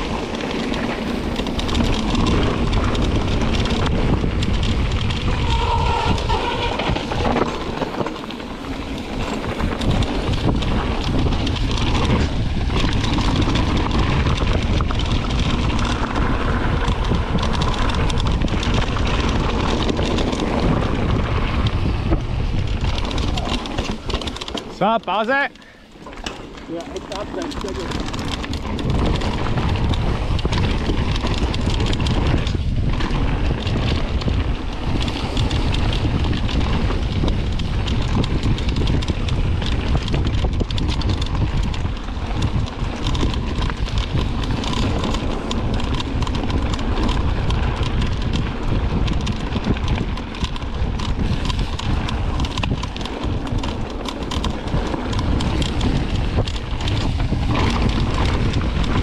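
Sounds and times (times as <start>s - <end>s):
bike rattling and clicking: 0.0s - 59.0s
tyres rolling on dirt and gravel: 0.0s - 59.0s
wind buffeting microphone: 0.0s - 59.0s.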